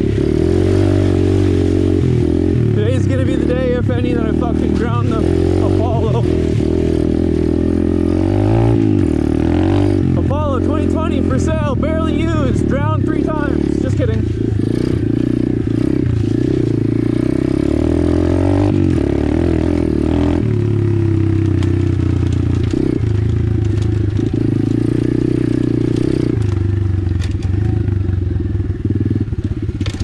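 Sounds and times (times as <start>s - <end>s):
motorbike engine revving: 0.0s - 30.0s
bike rattling over rough ground: 2.8s - 28.0s, 28.8s - 30.0s.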